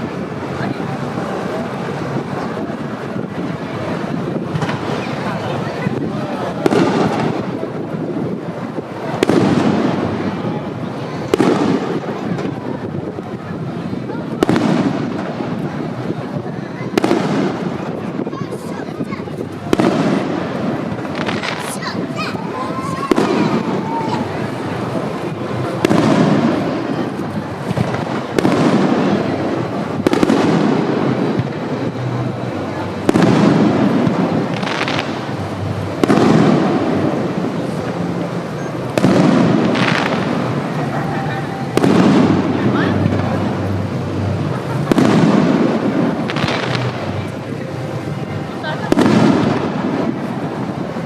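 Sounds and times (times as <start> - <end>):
din of fireworks bursts: 0.0 - 51.0
fireworks bangs with echo: 0.0 - 51.0.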